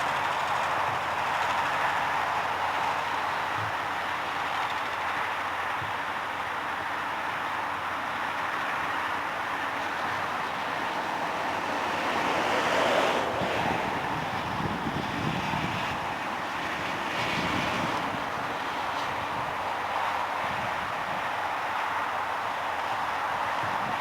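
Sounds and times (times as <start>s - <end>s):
train rolling by: 0.0s - 24.0s.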